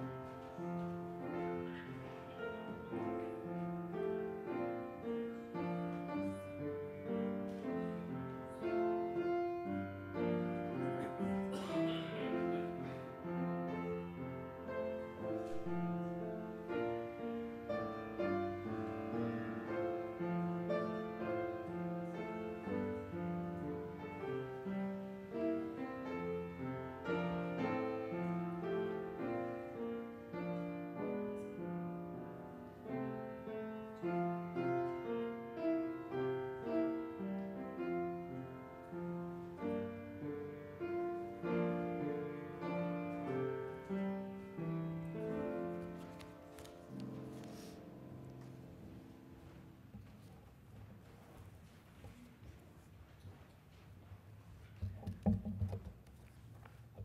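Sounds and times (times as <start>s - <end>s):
slow piano piece: 0.0s - 53.2s.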